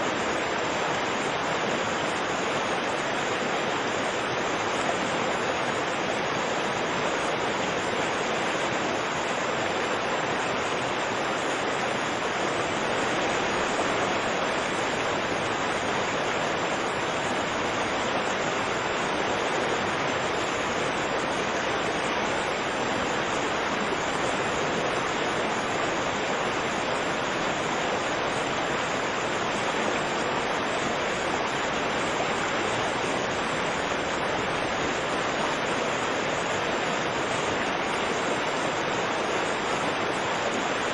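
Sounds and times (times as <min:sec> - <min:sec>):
rushing river water: 0:00.0 - 0:40.9.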